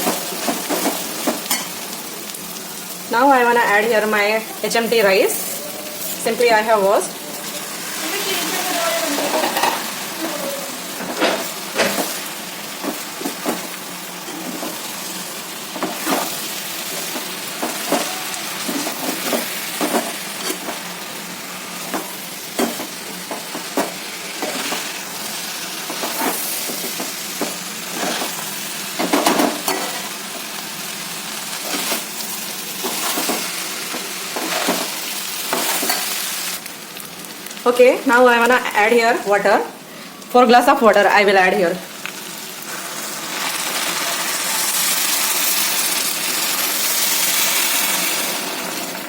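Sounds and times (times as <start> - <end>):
rice sizzling in hot oil: 0.0 - 49.0.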